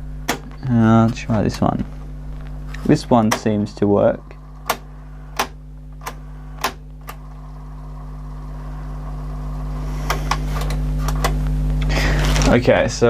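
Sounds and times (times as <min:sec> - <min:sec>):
mains hum: 0:00.0 - 0:13.0
tape hiss: 0:00.0 - 0:13.0.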